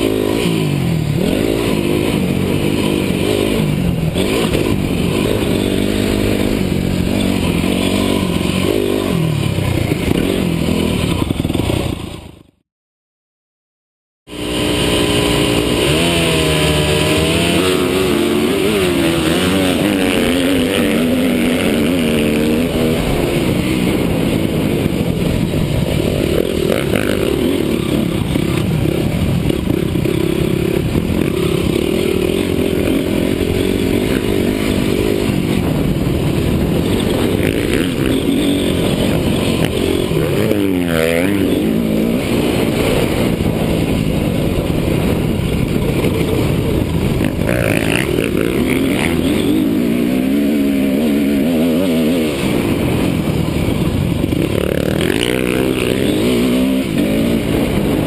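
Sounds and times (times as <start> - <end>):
motocross bike engine revving: 0.0 - 12.4, 14.3 - 58.0.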